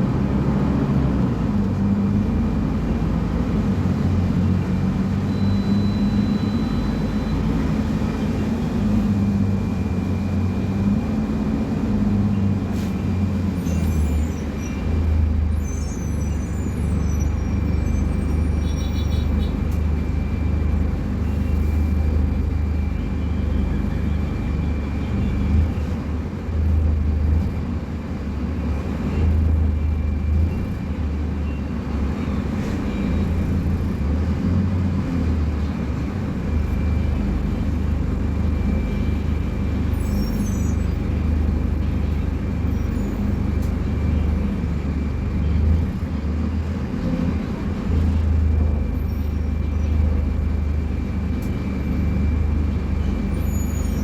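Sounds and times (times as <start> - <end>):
diesel bus engine droning: 0.0 - 54.0.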